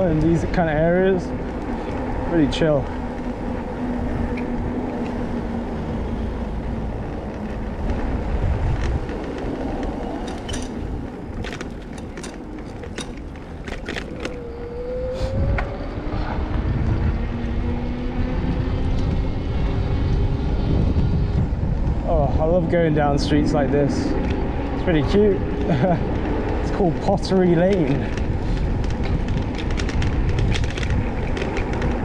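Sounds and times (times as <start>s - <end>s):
vehicle engine humming: 0.0s - 32.0s
wind and bicycle rolling noise: 0.0s - 32.0s.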